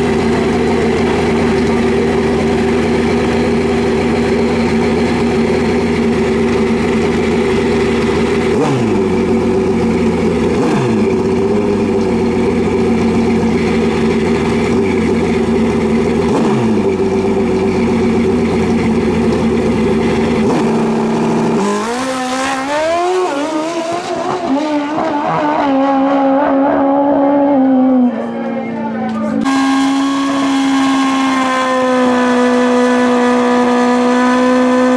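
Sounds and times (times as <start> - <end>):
motorcycle accelerating through gears: 0.0 - 28.3, 29.3 - 34.9
motorcycle engine revving: 0.0 - 34.9.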